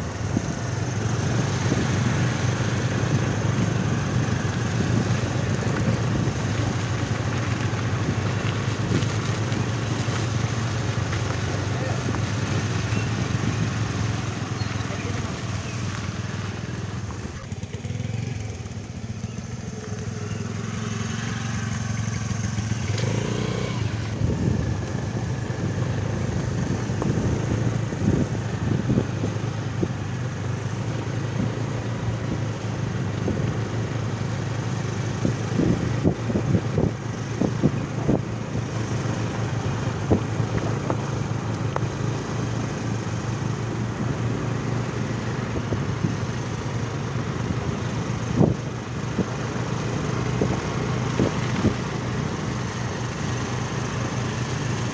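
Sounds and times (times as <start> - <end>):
rumble of the ride: 0.0 - 20.8, 21.5 - 54.9
scooter engine running: 0.0 - 54.9.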